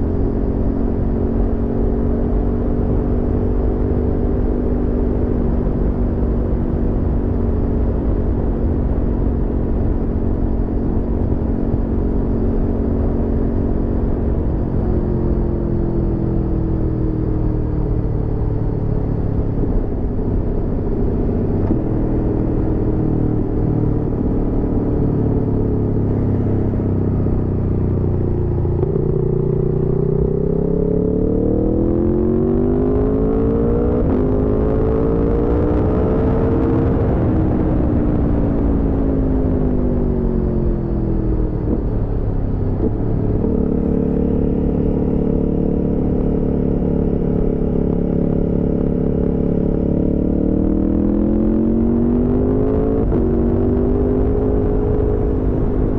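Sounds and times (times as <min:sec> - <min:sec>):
motorcycle engine: 0:05.2 - 0:55.9.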